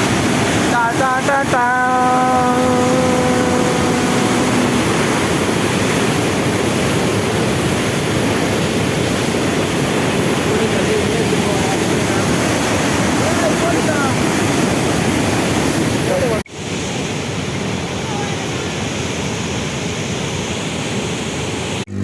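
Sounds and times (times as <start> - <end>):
floodwater rushing: 0.0 - 21.8.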